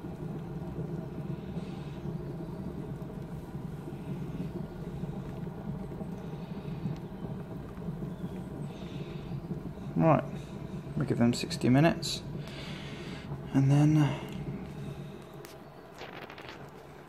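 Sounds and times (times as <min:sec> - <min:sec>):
liquid boiling and bubbling: 0:00.0 - 0:17.0.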